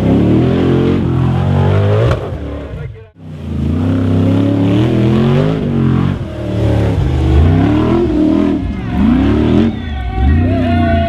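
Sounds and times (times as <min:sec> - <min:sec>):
buggy engine revving hard: 0:00.0 - 0:11.0.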